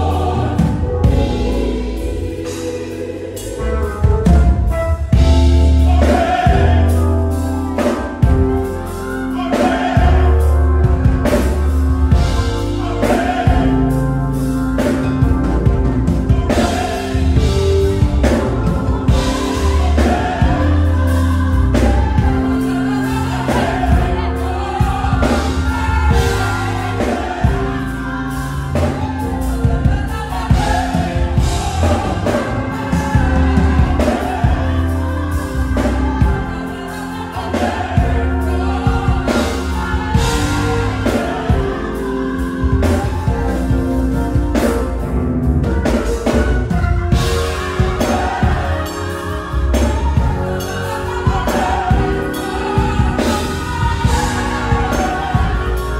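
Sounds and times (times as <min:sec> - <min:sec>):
drum kit beat: 0:00.0 - 0:55.9
gospel choir singing: 0:00.0 - 0:55.9
live band playing: 0:00.0 - 0:55.9.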